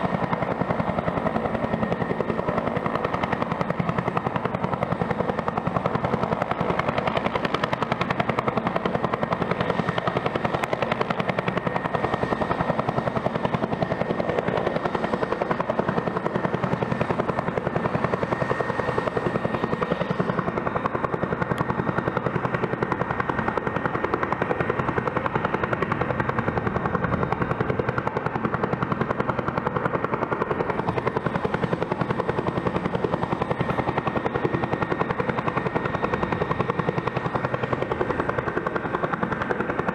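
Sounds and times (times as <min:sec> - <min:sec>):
helicopter rotor running: 0:00.0 - 0:39.9.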